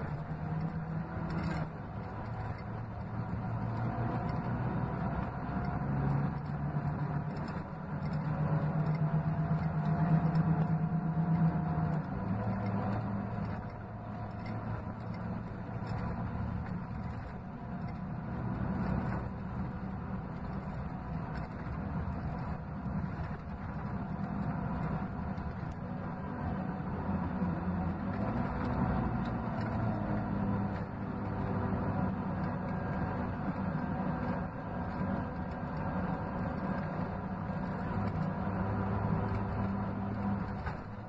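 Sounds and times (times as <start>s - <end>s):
bus diesel engine running: 0.0s - 41.0s.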